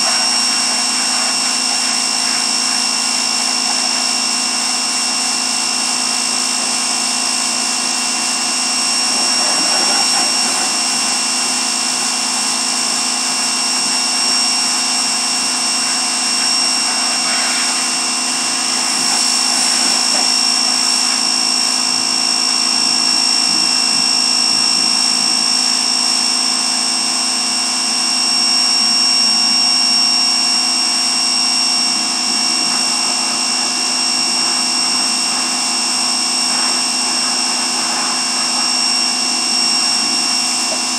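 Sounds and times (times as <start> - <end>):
high pump whine: 0.0 - 40.9
pressure washer motor running: 0.0 - 40.9.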